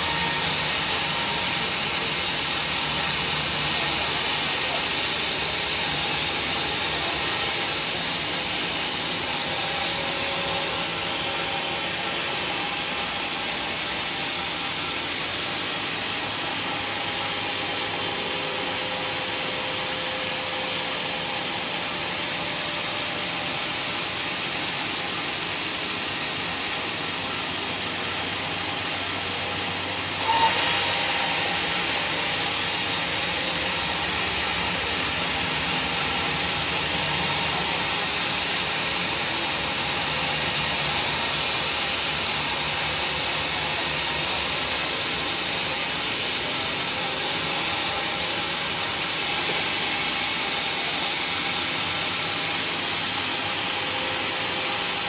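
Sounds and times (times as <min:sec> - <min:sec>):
woodworking machine whirring: 0:00.0 - 0:55.0.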